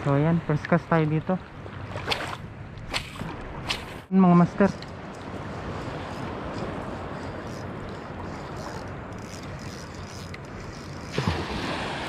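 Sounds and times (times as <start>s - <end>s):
sea: 0.0s - 12.0s.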